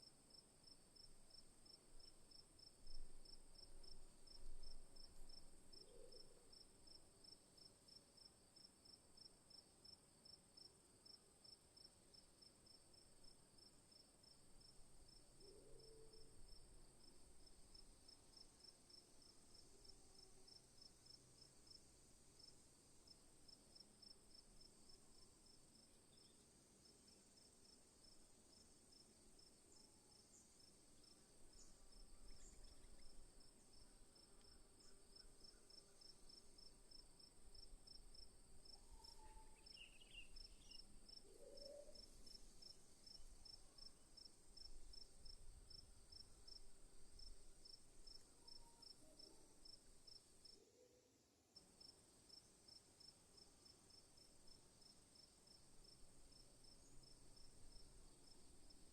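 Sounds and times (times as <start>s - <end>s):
cricket-like chirps: 0.0s - 51.0s, 51.6s - 58.9s
insect drone: 0.3s - 50.6s.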